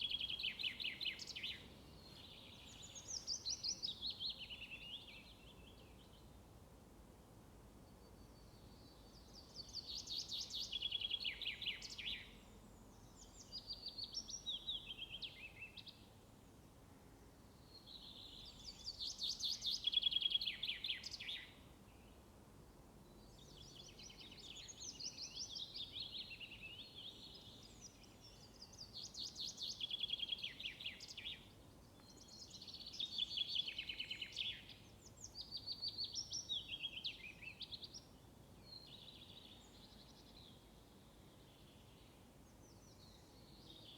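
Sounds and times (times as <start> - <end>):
faint steady hiss: 0.0 - 43.9.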